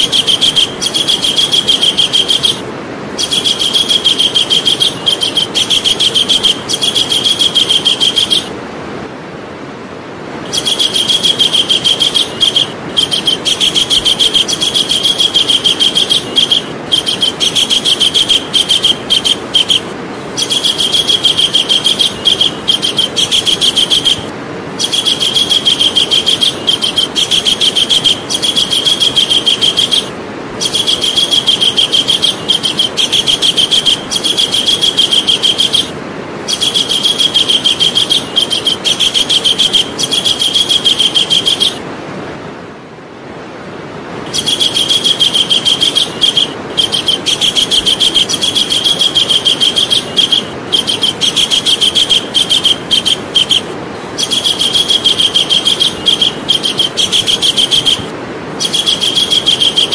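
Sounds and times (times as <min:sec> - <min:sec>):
kingfisher calling shrill notes: 0:00.0 - 0:08.6, 0:10.5 - 0:41.8, 0:44.3 - 0:59.9
steady hiss: 0:00.0 - 0:59.9.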